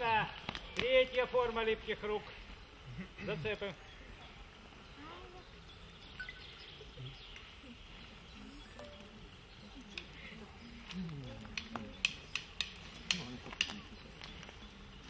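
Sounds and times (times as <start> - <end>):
faint murmur of voices: 2.8 - 15.0.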